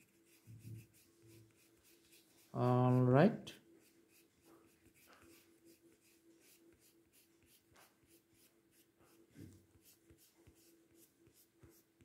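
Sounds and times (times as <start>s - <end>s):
crayon scratching on paper: 0.0s - 12.0s.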